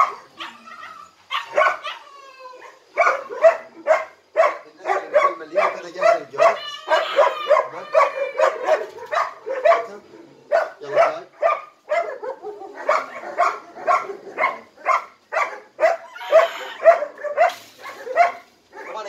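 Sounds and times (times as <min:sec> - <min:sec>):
dogs barking: 0:00.0 - 0:19.0.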